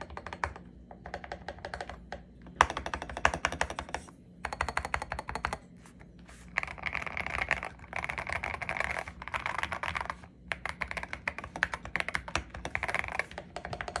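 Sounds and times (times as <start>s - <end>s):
mechanical keyboard typing: 0.0s - 5.7s, 6.5s - 14.0s.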